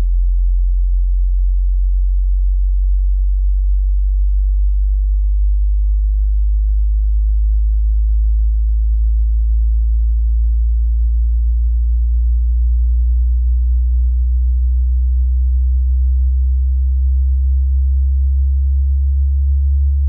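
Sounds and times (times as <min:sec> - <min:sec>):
low-pitched sine test tone: 0:00.0 - 0:20.0.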